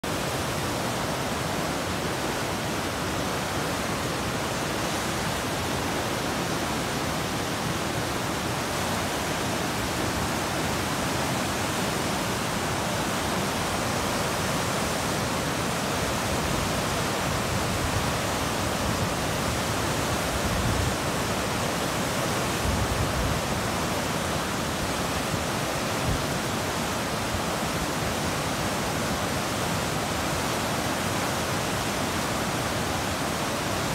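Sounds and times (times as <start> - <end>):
river rushing through whitewater: 0.0 - 33.9.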